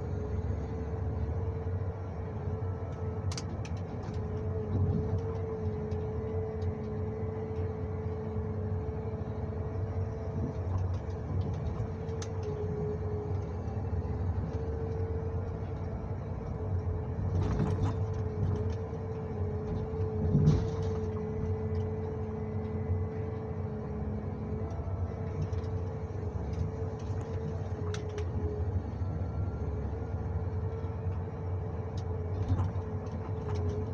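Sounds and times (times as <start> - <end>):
engine rumble from inside cab: 0.0 - 33.9.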